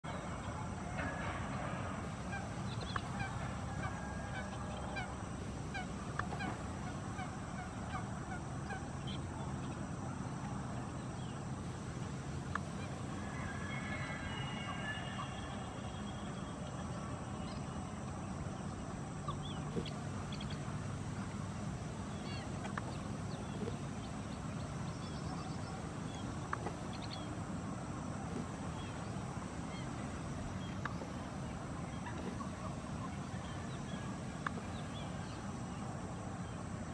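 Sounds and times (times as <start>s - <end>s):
long bird call: 0.0s - 36.6s
birds chirping: 0.0s - 36.9s.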